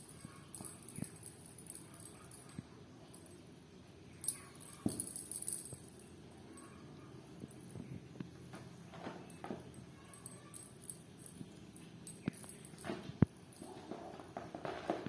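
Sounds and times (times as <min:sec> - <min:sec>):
high jingling: 0:00.0 - 0:07.9, 0:09.2 - 0:14.2.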